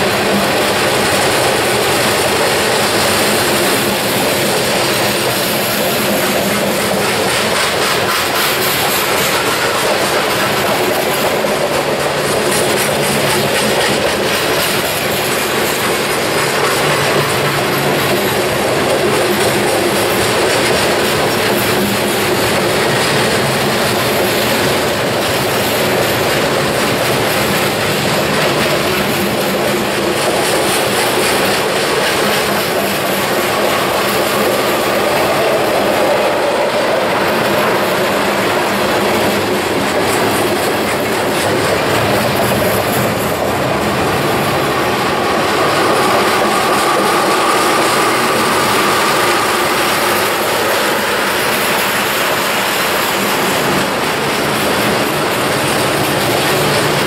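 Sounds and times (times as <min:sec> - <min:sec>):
freight train rolling past: 0:00.0 - 0:57.0
wheels clicking over rail joints: 0:00.0 - 0:57.0.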